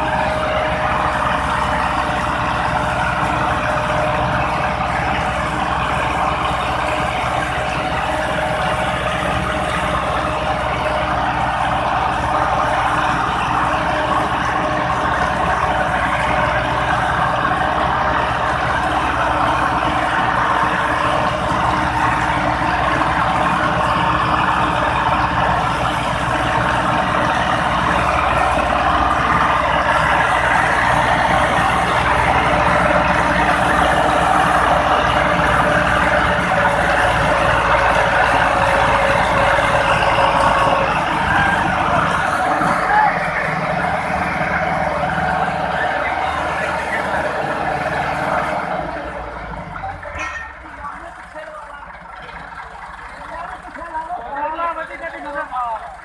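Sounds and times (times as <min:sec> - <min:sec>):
tractor engine droning under load: 0:00.0 - 0:56.0.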